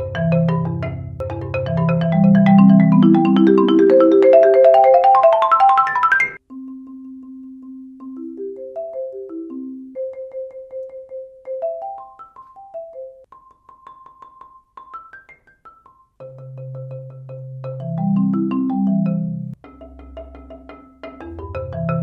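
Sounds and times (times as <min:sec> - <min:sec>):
marimba playing: 0:00.0 - 0:22.0.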